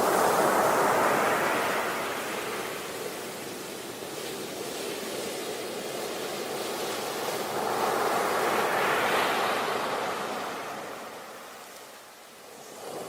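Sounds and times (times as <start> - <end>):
sea waves breaking on beach: 0.0 - 13.0.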